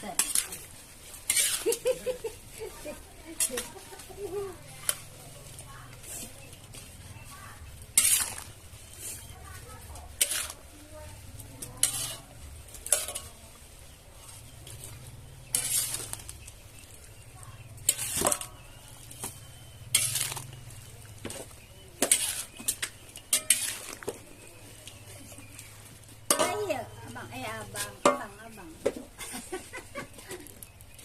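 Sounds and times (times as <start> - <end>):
utensil scraping in a pan: 0.0 - 31.0.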